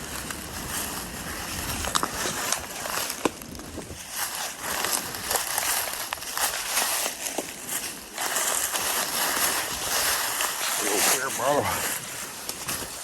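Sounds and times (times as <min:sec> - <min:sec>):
footsteps crunching through leaves: 0:00.0 - 0:13.0
steady rushing outdoor noise: 0:00.0 - 0:13.0
twigs snapping: 0:00.0 - 0:13.0.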